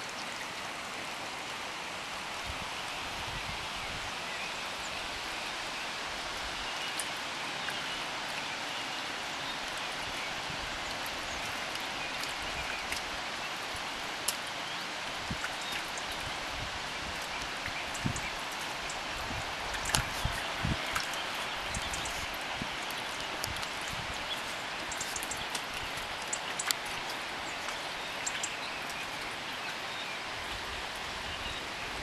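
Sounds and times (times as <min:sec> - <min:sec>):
steady rain falling: 0:00.0 - 0:32.0
raindrops ticking close by: 0:04.4 - 0:32.0.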